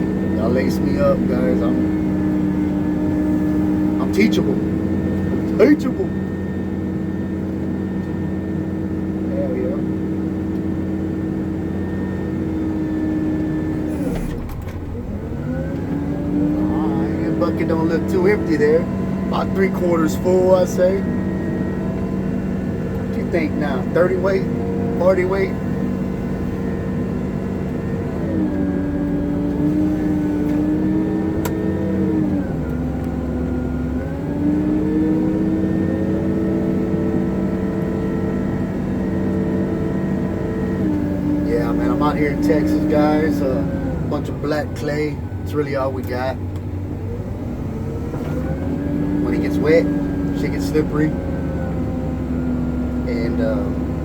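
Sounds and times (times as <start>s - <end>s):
wheel loader diesel engine: 0.0s - 54.0s.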